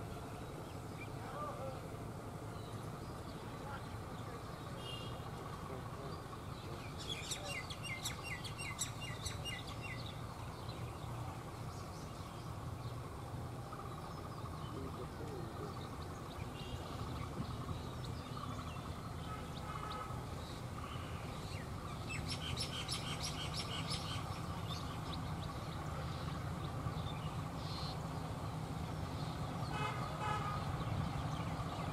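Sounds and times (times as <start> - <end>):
locomotive engine rumble: 0.0 - 31.9
small birds chirping: 0.0 - 31.9.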